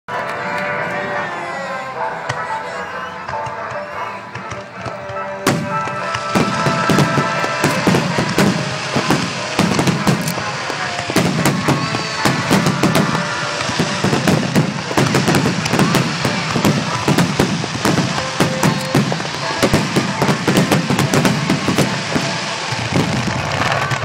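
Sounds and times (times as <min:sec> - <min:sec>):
fireworks bursting with crackling: 0:02.0 - 0:24.0.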